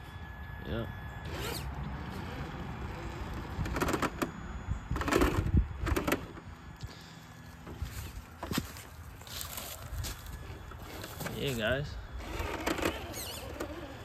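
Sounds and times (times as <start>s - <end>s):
electric motor whirring: 0.0s - 14.0s
tires crunching over dirt and rocks: 1.3s - 14.0s.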